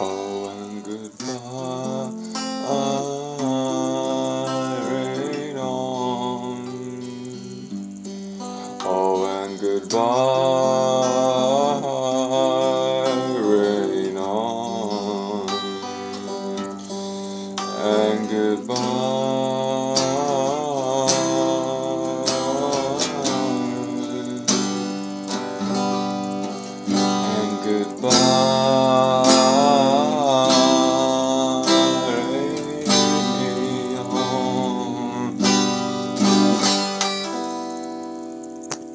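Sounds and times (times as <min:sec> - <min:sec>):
man singing: 0:00.0 - 0:08.0, 0:08.6 - 0:37.6
electric guitar strumming chords: 0:00.0 - 0:38.9.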